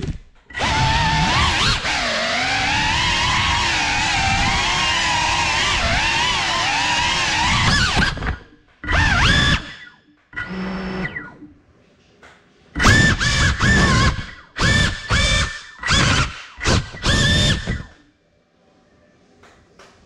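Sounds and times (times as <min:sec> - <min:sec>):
drone motors whining: 0:00.0 - 0:11.5, 0:12.8 - 0:18.0.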